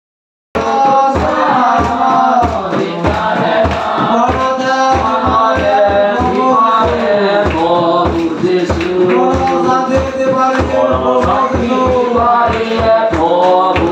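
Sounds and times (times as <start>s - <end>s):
congregation singing a hymn: 0.6s - 13.9s
hand drum beating: 0.6s - 13.9s.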